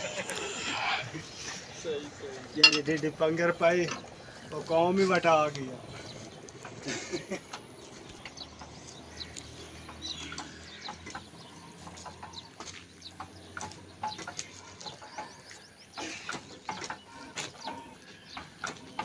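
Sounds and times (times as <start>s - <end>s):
birds chirping: 0.0s - 19.0s
engine clicks and clanks: 2.6s - 19.0s.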